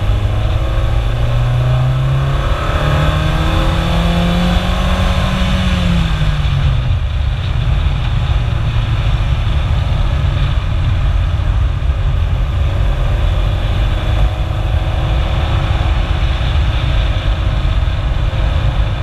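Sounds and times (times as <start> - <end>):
car driving low rumble: 0.0 - 19.0.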